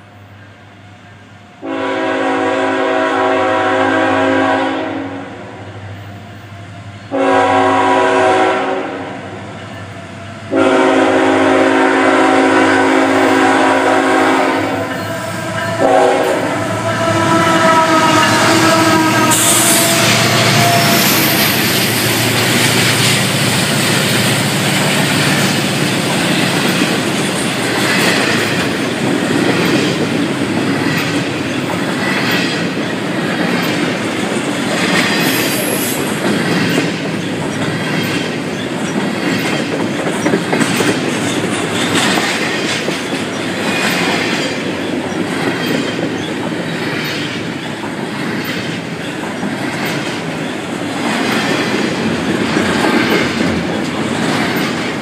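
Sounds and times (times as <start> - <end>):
freight train passing: 0.0 - 55.0
rail clacks: 7.2 - 55.0.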